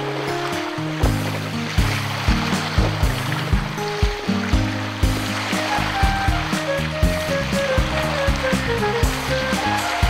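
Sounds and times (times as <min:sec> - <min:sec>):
music with steady beat: 0:01.0 - 0:10.0.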